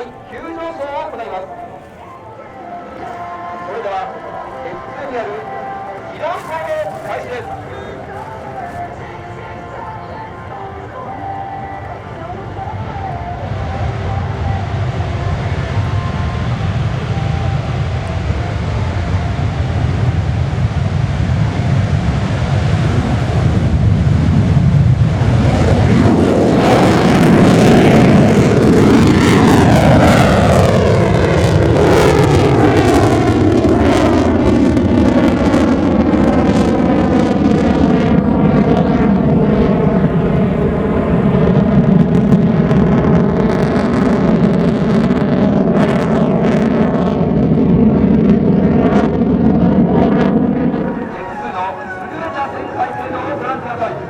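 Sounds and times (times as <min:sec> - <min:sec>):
jet engine roar: 0:00.0 - 0:54.0
jet passing whoosh: 0:00.0 - 0:54.0.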